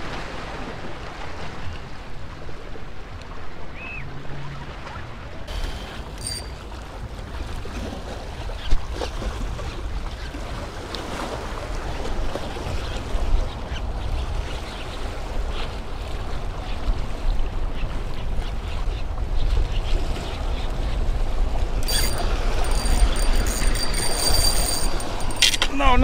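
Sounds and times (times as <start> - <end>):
waves lapping against rocks: 0.0 - 3.9, 4.5 - 24.8
wind rumbling on microphone: 0.0 - 26.0.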